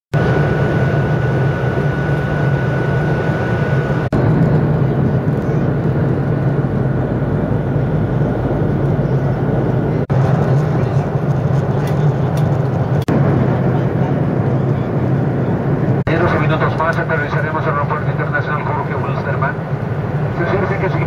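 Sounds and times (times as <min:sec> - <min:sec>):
jet engines droning: 0:00.1 - 0:21.0
low hum: 0:00.2 - 0:21.0.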